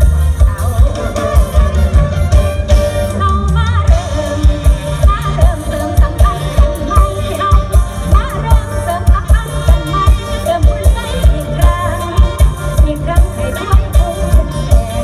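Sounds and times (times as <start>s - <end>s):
heavy drum beat: 0.0s - 15.0s
woman singing over loudspeakers: 2.8s - 15.0s.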